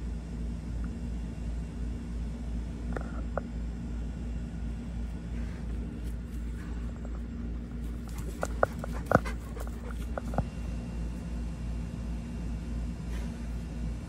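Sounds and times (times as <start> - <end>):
low mechanical rumble with hum: 0.0 - 14.0.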